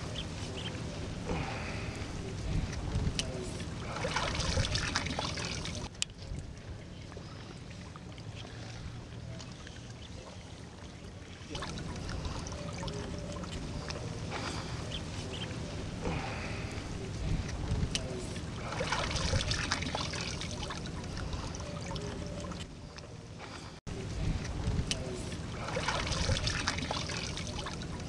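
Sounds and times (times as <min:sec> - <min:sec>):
steady low rumble: 0:00.0 - 0:10.0, 0:10.7 - 0:28.0
water splashing and trickling: 0:00.0 - 0:28.0.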